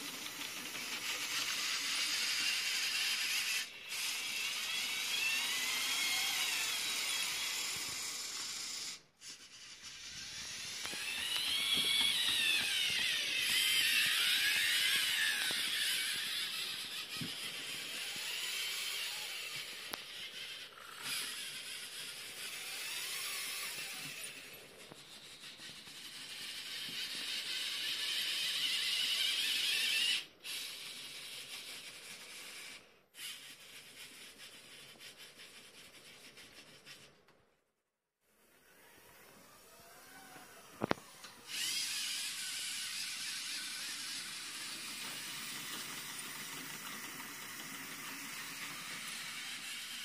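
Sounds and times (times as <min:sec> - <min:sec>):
small electric motors whining: 0:00.0 - 0:37.1, 0:38.3 - 0:50.0.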